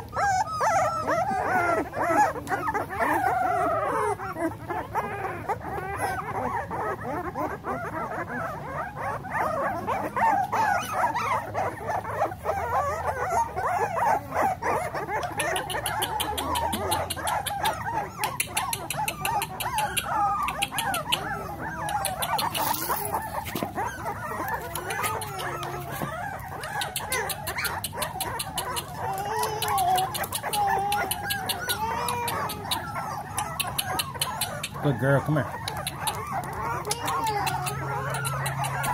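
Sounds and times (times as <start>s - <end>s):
puppies whining and squealing: 0.0s - 38.9s.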